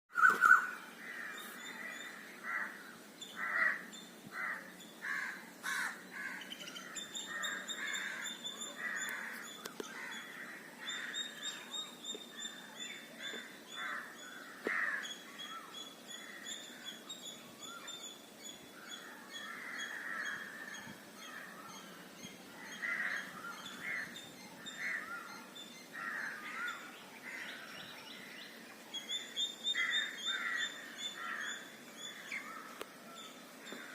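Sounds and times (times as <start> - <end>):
birds calling: 0.1 - 33.9.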